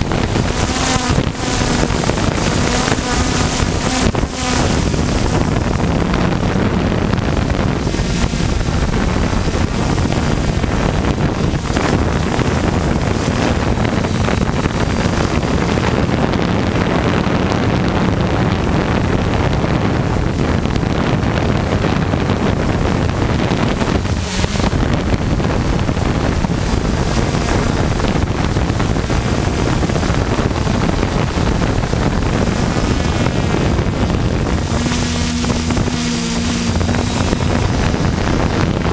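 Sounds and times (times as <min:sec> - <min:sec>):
drone motors and propellers droning: 0:00.0 - 0:38.9
wind noise on microphone: 0:00.0 - 0:38.9.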